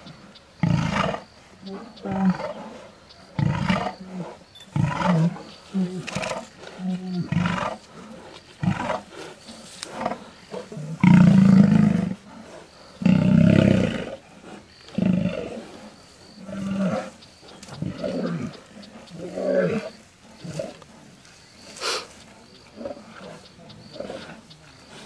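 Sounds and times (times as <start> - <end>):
lions snarling: 0.6 - 25.0.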